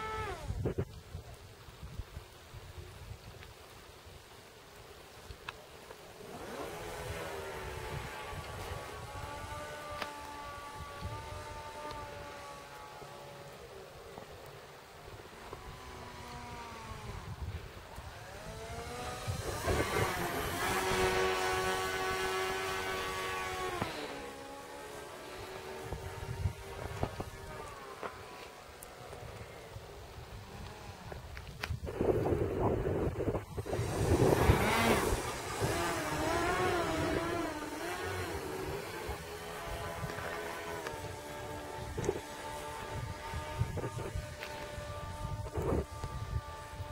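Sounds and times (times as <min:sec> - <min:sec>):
model plane motor whine: 0:00.0 - 0:01.3, 0:05.6 - 0:46.9
wind rumble on microphone: 0:00.0 - 0:04.3, 0:06.6 - 0:13.6, 0:15.1 - 0:46.9.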